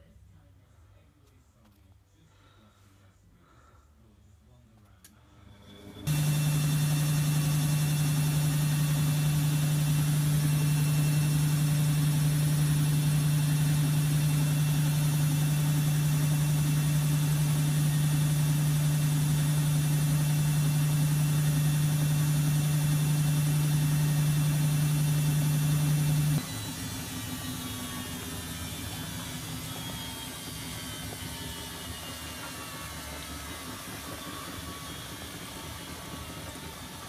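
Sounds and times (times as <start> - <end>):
washing machine drum spinning: 6.0 - 37.0.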